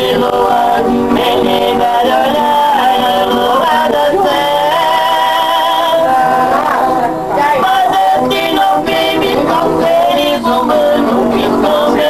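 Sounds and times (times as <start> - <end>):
acoustic guitars playing: 0.0 - 12.0
two men singing: 0.0 - 12.0.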